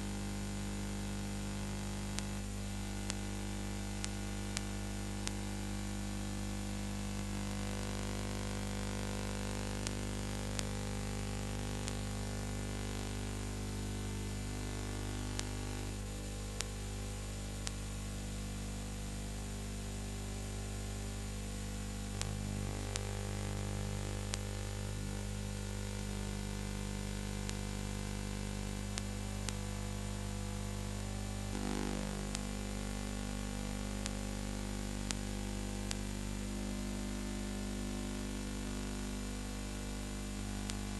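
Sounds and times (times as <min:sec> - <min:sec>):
electrical mains hum and hiss: 0:00.0 - 0:40.9.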